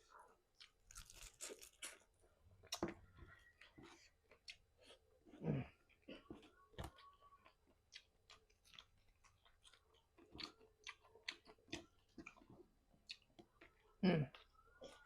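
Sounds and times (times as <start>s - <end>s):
person chewing crunchy food: 0.0s - 2.9s, 3.6s - 15.0s.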